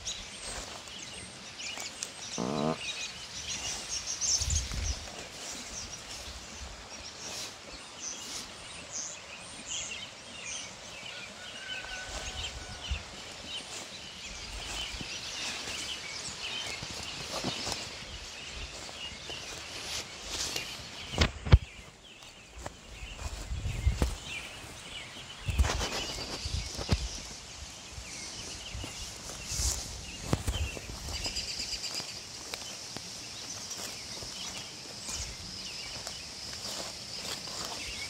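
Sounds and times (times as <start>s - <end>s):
footsteps through dry leaves: 0.0s - 9.6s, 11.1s - 38.0s.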